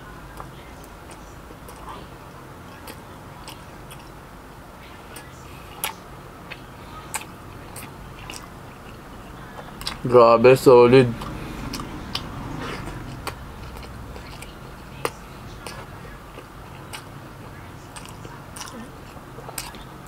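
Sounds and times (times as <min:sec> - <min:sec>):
low steady hum: 0:00.0 - 0:20.0
person chewing: 0:00.3 - 0:04.2, 0:05.0 - 0:10.2, 0:11.0 - 0:20.0.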